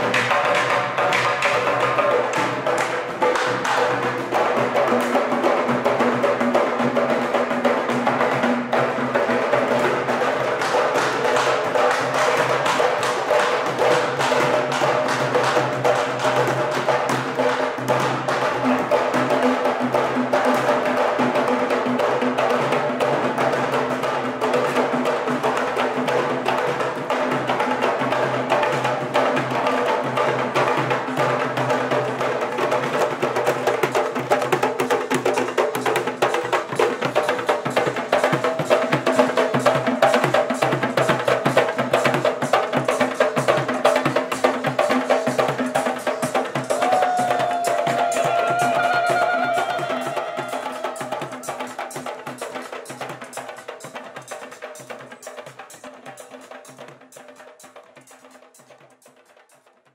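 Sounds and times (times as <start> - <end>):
barrel drums drumming: 0.0 - 59.5.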